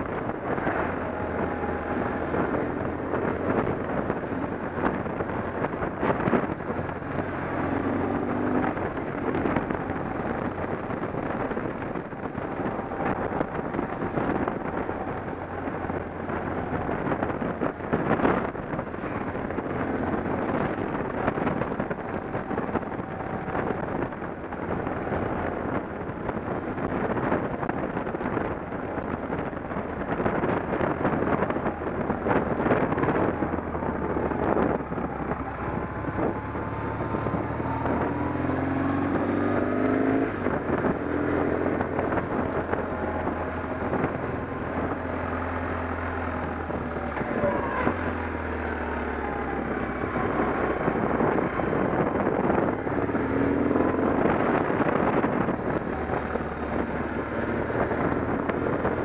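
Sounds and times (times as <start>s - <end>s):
engine running: 0.0s - 59.0s
wind noise on microphone: 0.0s - 59.0s.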